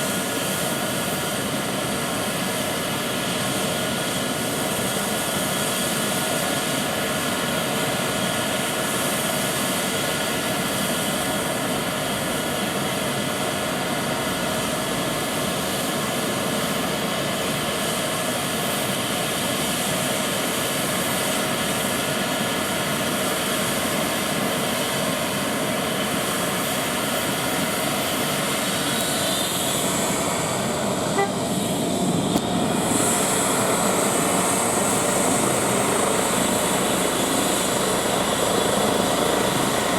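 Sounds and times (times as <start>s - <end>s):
helicopter engines and rotor: 0.0s - 39.9s
turbine whine: 0.0s - 39.9s.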